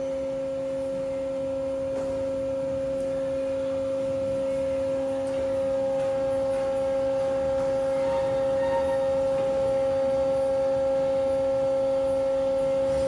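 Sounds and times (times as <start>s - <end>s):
hydraulic power unit whining: 0.0s - 13.0s.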